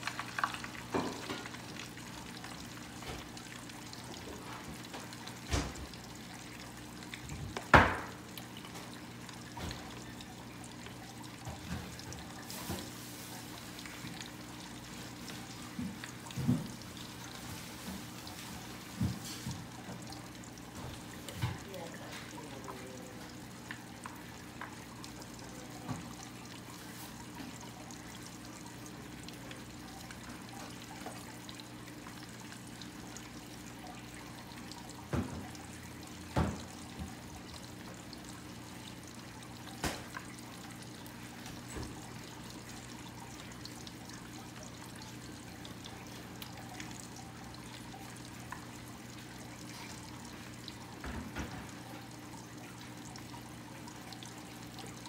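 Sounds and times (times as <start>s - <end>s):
low steady hum: 0.0s - 55.0s
oil popping: 0.0s - 55.0s.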